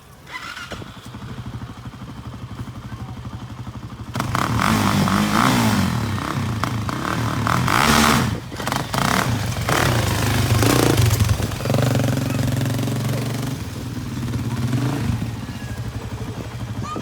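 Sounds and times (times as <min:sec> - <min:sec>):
quad engine revving: 0:00.2 - 0:17.0.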